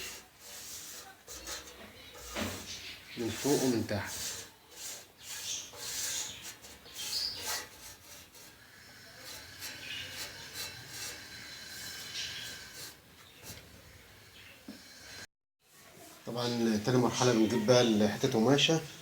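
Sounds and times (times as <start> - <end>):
broom bristles brushing: 0.0 - 18.8.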